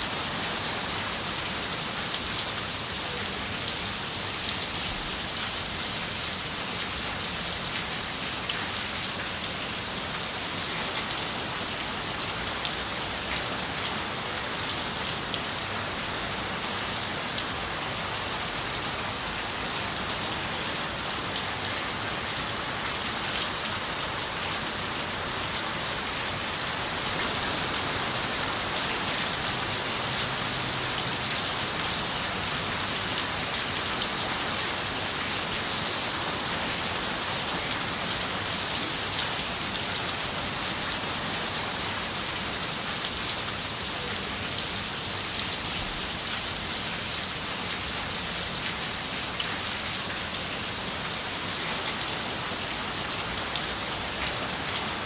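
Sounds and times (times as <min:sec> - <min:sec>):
rain on a window: 0:00.3 - 0:55.0.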